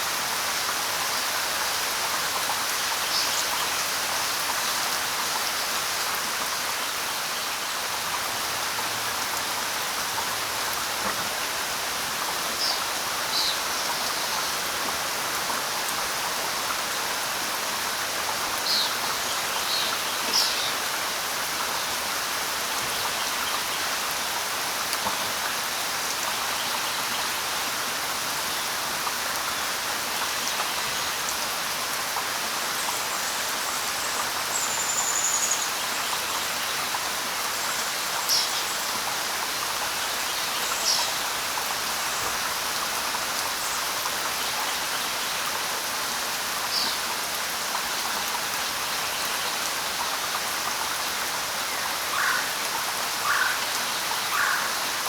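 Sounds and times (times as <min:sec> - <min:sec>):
light rain on leaves: 0:00.0 - 0:55.0.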